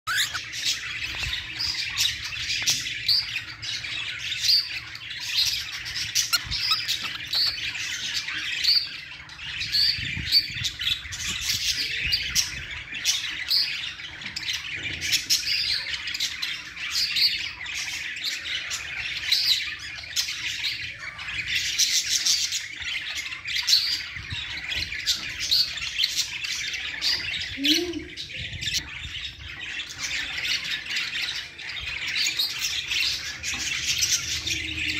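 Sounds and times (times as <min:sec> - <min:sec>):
cockatiels chirping and squawking: 0:00.1 - 0:34.9.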